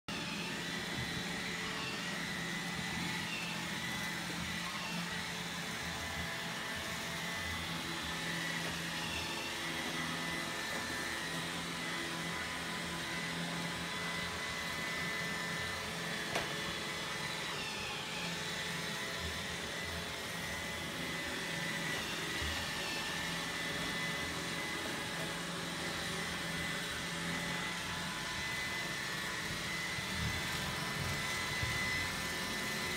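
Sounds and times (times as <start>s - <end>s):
robot vacuum whirring: 0.1s - 32.9s.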